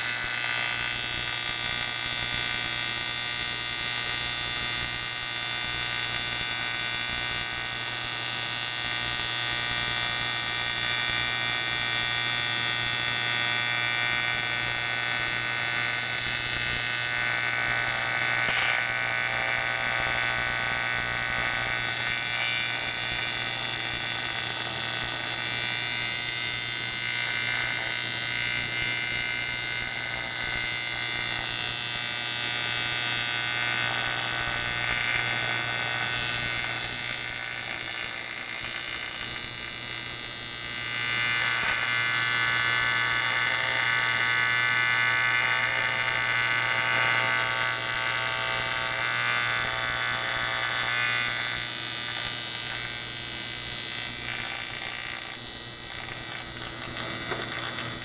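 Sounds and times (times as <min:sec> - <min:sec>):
welding arc buzzing and hissing: 0:00.0 - 0:58.0.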